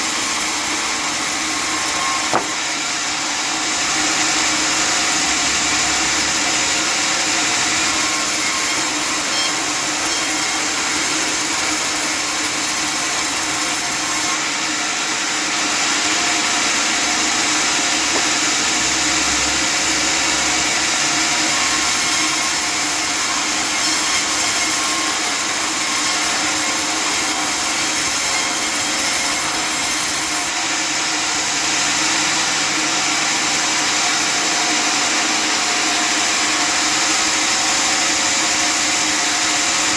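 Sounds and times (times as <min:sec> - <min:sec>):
sawmill cutting wood: 0:00.0 - 0:39.9.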